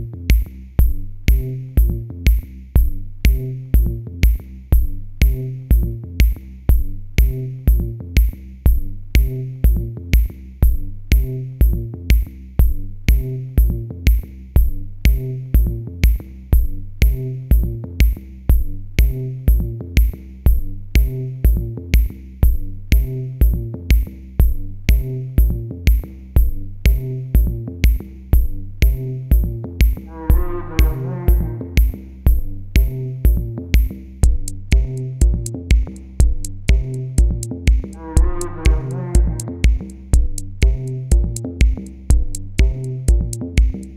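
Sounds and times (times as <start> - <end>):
electronic music with drum-machine beat: 0.0 - 43.9.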